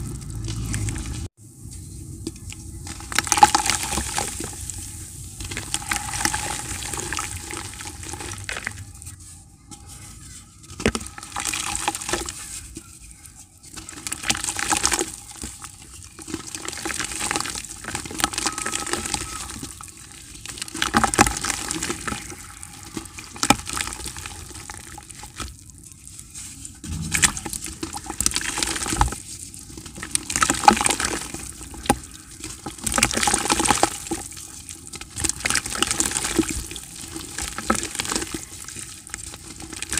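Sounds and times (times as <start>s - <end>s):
dirt crumbled by hand: 0.0s - 9.2s, 9.8s - 39.9s
crumbs splashing into water: 2.8s - 9.1s, 10.7s - 12.8s, 13.6s - 25.8s, 26.7s - 39.9s.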